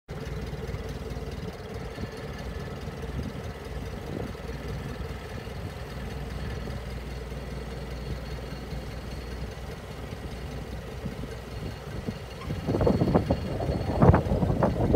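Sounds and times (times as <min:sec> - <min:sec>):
forklift engine running: 0:00.1 - 0:14.9.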